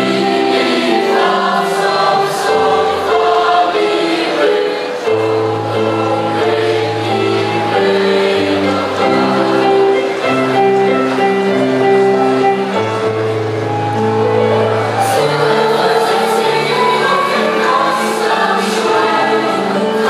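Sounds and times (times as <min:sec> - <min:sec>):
choir singing: 0:00.0 - 0:20.0
piano accompaniment: 0:00.0 - 0:20.0.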